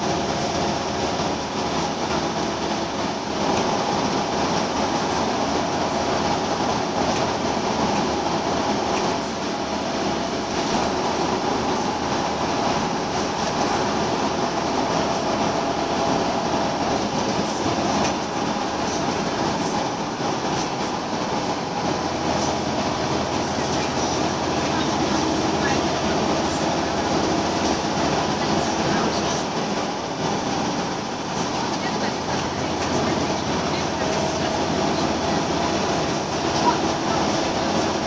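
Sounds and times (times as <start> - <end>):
bus diesel engine running: 0.0 - 38.0
steady whine: 0.0 - 38.0.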